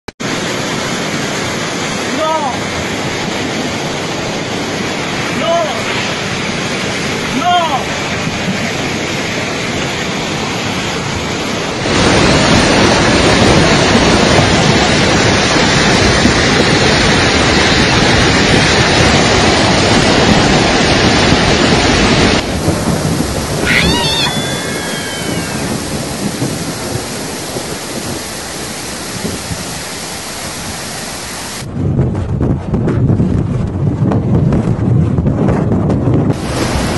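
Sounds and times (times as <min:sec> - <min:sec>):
floodwater rushing: 0:00.2 - 0:31.7, 0:36.3 - 0:36.9
wind on microphone: 0:00.3 - 0:36.9.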